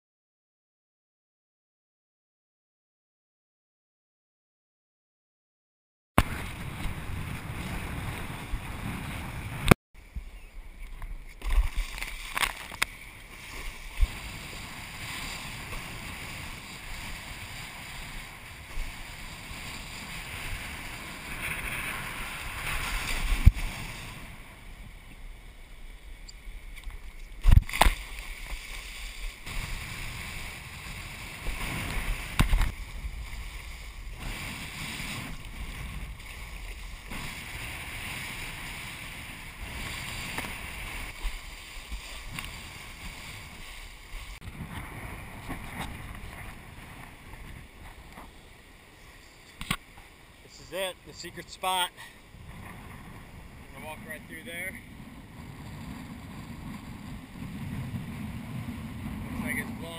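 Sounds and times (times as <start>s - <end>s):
wind noise: 6.2s - 59.9s.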